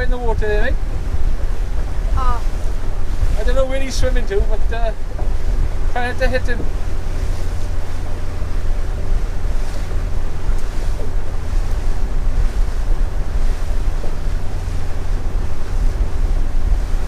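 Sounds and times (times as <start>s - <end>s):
boat engine running: 0.0s - 17.0s
water rushing past boat: 0.0s - 17.0s
wind buffeting microphone: 0.0s - 17.0s.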